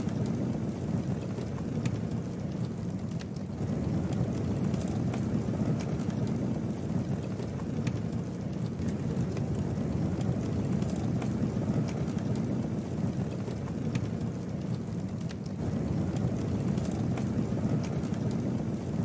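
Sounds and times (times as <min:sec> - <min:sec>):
campfire flame rumble: 0:00.0 - 0:19.0
wood crackling and popping: 0:00.0 - 0:19.0.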